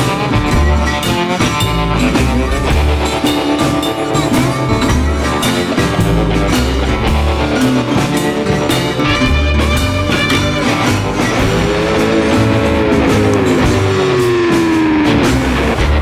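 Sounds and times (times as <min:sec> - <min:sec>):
guitar bending down in pitch: 0:00.0 - 0:16.0
rock music with guitar and drums: 0:00.0 - 0:16.0.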